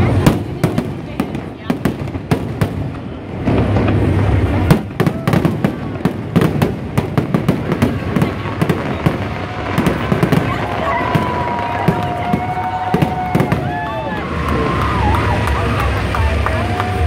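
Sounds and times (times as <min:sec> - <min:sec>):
fireworks cracks and pops: 0:00.0 - 0:17.0.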